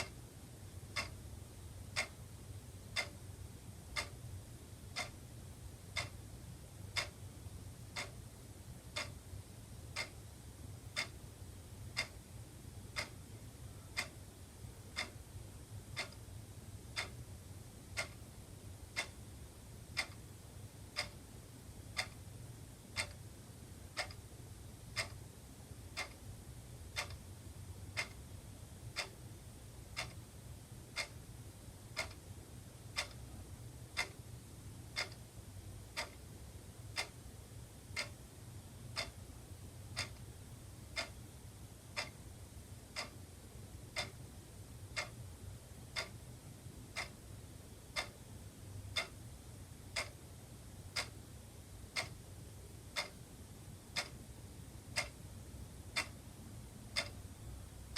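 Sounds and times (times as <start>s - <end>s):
faint low hum: 0.0s - 57.9s
wall clock ticking: 0.0s - 57.9s.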